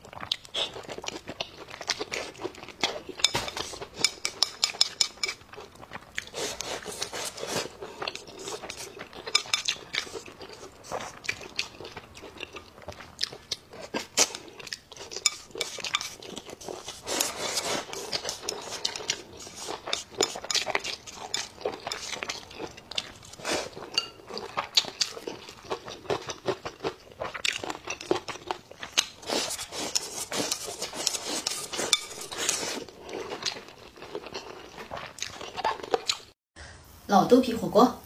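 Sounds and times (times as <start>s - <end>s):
person chewing: 0.0s - 36.4s.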